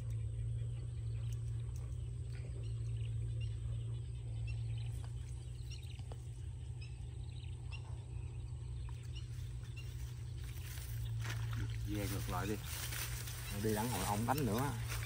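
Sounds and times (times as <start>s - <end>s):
small animals chirping: 0.0s - 15.0s
steady low hum: 0.0s - 15.0s.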